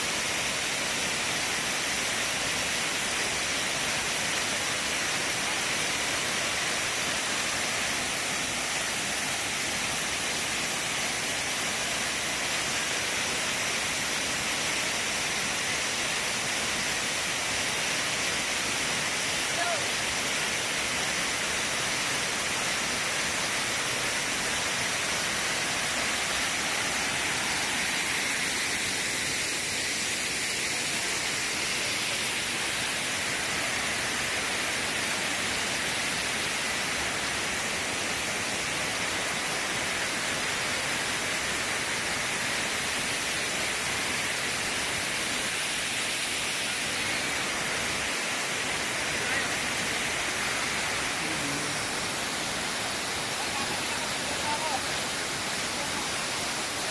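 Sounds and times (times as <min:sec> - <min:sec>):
waterfall rushing over rocks: 0:00.0 - 0:56.9.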